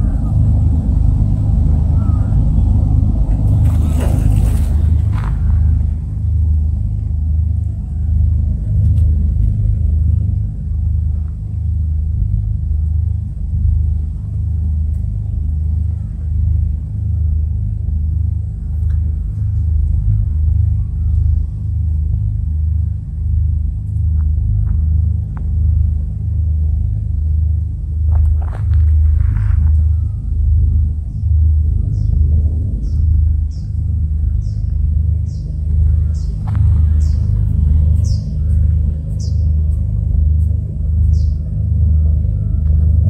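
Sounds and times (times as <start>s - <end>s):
engine rumbling: 0.0s - 43.0s.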